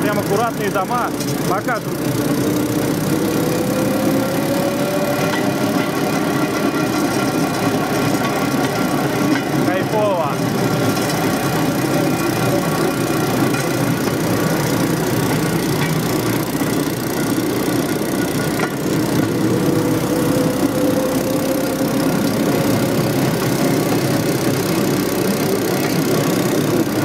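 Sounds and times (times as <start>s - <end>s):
small petrol engine running: 0.0s - 27.0s
wheels clattering over rails: 0.0s - 27.0s.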